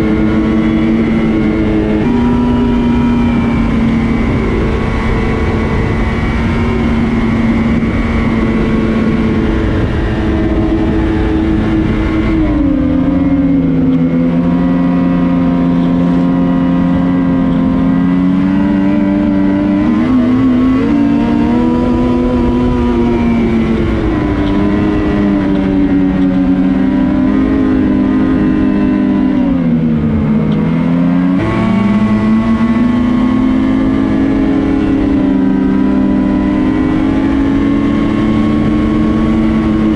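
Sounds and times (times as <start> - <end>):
snowmobile engine running hard: 0.0 - 39.9.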